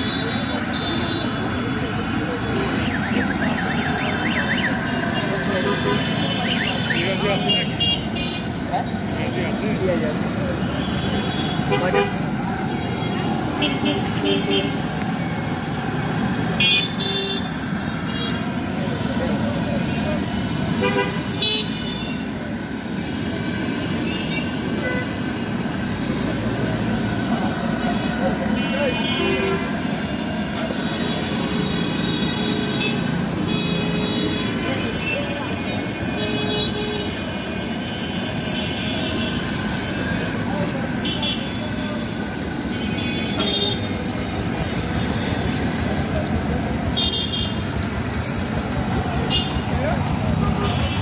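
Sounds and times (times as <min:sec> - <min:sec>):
deep-frying sizzle: 0:00.0 - 0:51.0
street traffic noise: 0:00.0 - 0:51.0.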